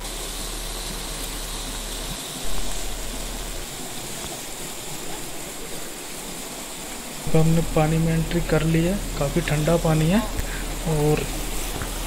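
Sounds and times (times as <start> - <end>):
stream rushing over rocks: 0.9 - 12.0.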